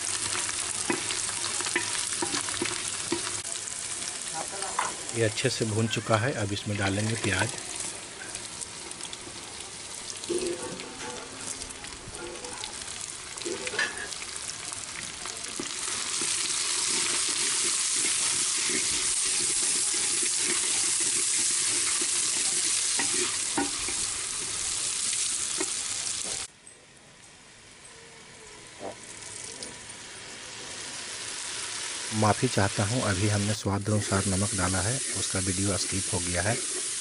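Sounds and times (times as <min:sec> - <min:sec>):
onions sizzling in hot oil: 0:00.0 - 0:26.5, 0:28.6 - 0:37.0.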